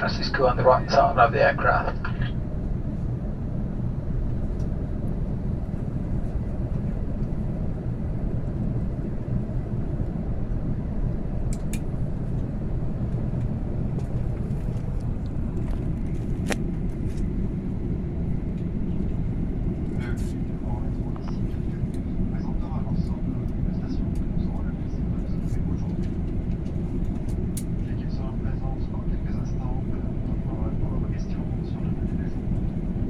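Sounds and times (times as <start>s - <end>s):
airliner cabin rumble: 0.0s - 33.0s.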